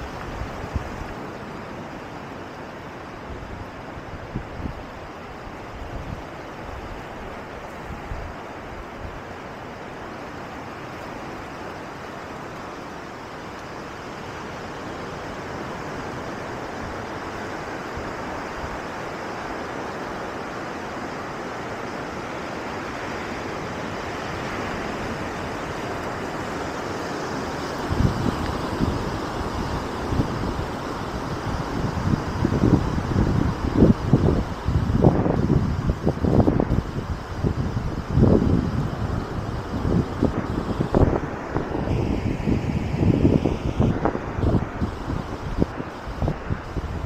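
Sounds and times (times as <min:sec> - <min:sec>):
sea surf rushing: 0:00.0 - 0:47.0.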